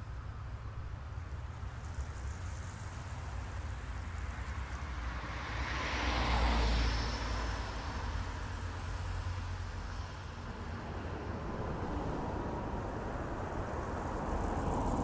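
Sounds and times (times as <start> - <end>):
low traffic rumble: 0.0 - 15.0
car passing by: 1.8 - 15.0.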